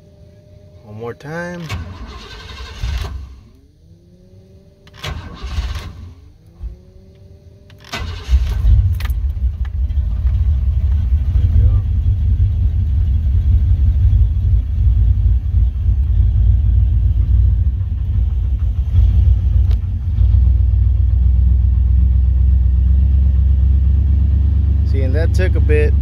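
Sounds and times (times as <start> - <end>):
pickup engine cranking and idling: 1.2 - 26.0.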